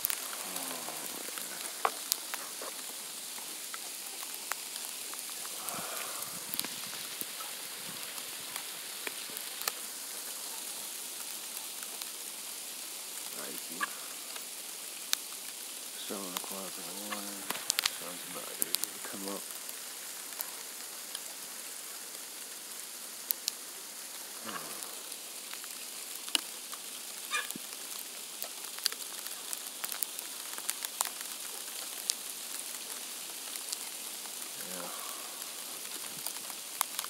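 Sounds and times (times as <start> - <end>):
ice drops ticking on hard surfaces: 0.0 - 21.3, 24.5 - 37.0
freezing rain hissing: 0.0 - 37.0.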